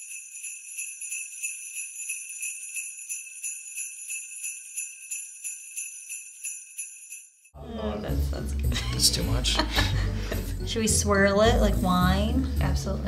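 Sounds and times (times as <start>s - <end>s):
sleigh bells jingling: 0.0s - 13.0s.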